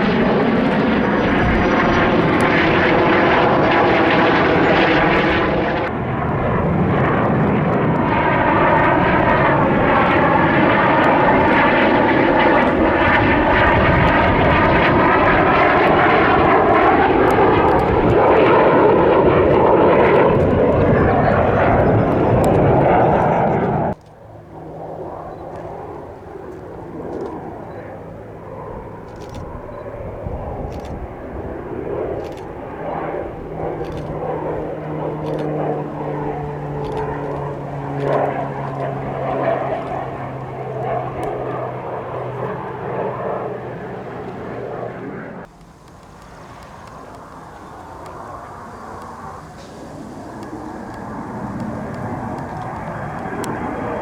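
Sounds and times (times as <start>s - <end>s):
aircraft engine drone: 0.0s - 54.0s.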